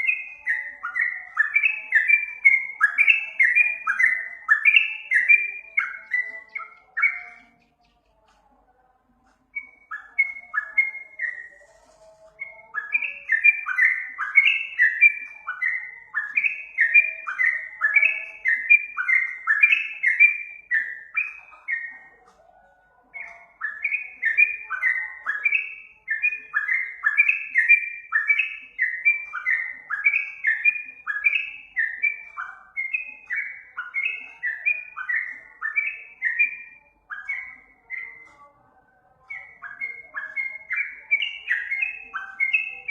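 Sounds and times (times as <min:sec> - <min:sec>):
bird song of falling chirps: 0:00.0 - 0:08.5, 0:09.2 - 0:42.9.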